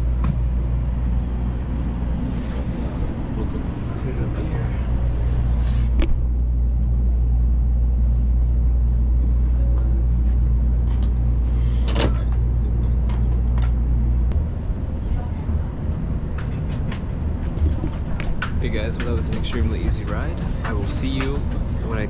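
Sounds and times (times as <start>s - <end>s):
train interior rumble: 0.0s - 22.0s.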